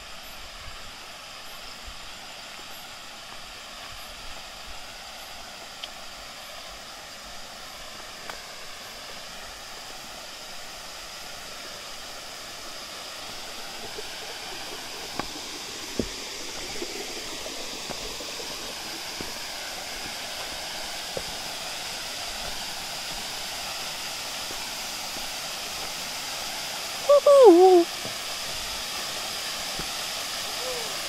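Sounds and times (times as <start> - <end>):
waterfall rushing: 6.0 - 31.0.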